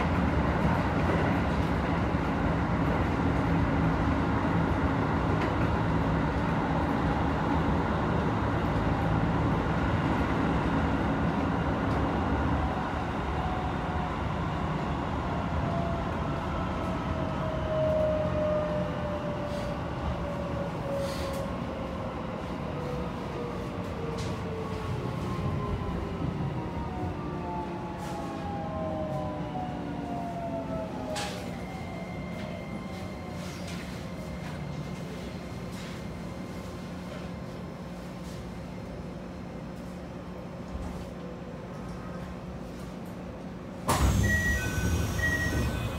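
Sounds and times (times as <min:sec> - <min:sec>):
train running on rails: 0:00.0 - 0:45.9.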